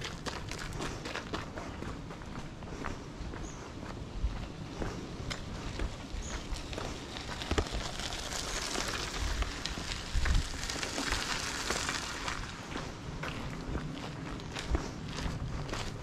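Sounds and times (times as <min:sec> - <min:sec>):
footsteps crunching on gravel: 0:00.0 - 0:16.0.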